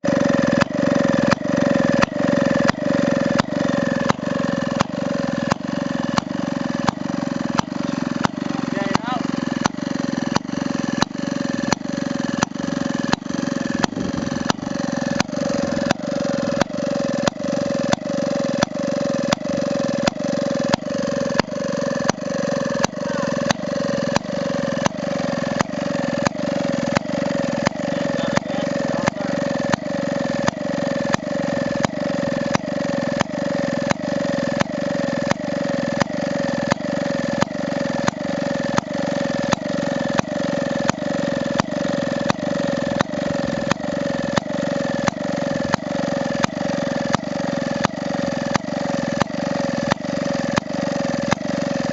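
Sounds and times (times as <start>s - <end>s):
two-stroke engine running: 0.0s - 51.9s.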